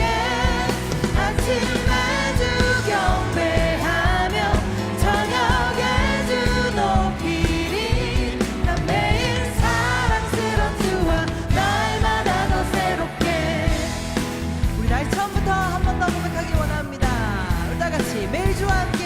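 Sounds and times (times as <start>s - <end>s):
singers singing melody: 0.0s - 15.4s
worship band playing: 0.0s - 19.0s.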